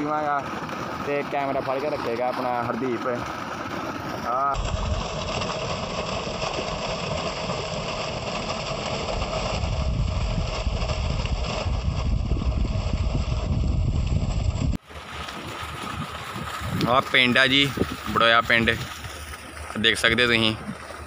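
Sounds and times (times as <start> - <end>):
electric pump running: 0.0 - 21.0
water gushing from pipe: 0.0 - 21.0.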